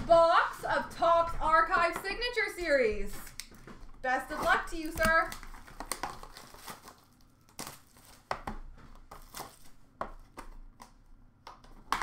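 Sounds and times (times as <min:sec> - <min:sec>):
cardboard packaging being handled: 0:00.0 - 0:10.8.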